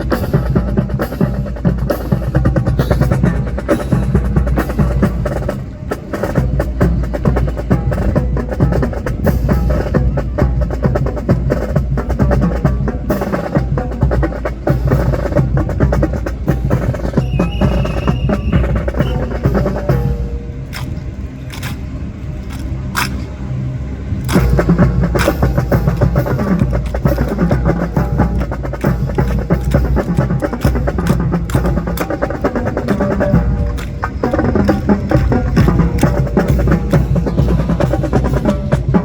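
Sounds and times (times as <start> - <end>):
drums and percussion music: 0.0 - 21.9, 22.5 - 23.3, 24.2 - 39.0
continuous bass: 0.0 - 39.0.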